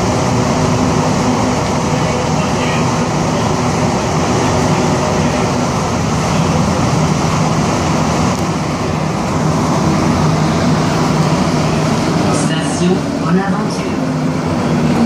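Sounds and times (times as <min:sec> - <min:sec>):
low hum: 0:00.0 - 0:15.0
train rumbling through a tunnel: 0:00.0 - 0:15.0.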